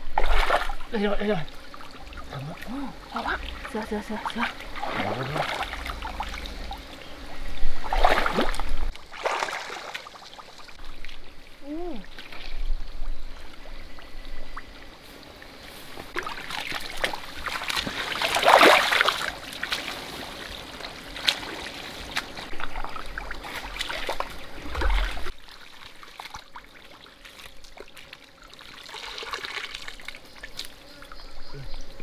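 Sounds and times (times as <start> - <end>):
shallow water splashing: 0.0 - 12.7, 15.4 - 30.7.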